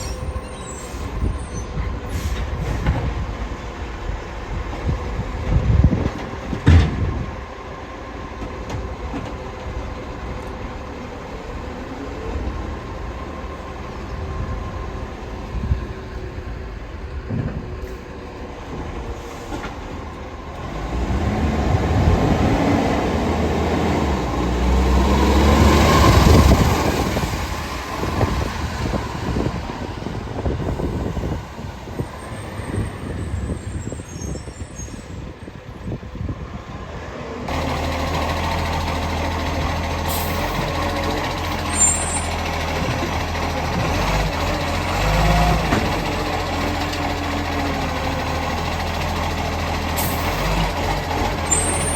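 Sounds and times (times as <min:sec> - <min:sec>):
garbage truck diesel rumble: 0:00.0 - 0:51.9.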